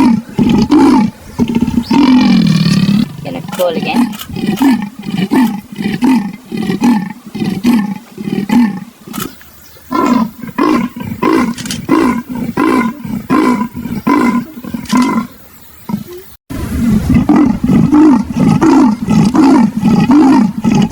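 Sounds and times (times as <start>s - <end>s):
leopard rasping grunts: 0.0s - 15.3s, 17.0s - 20.9s.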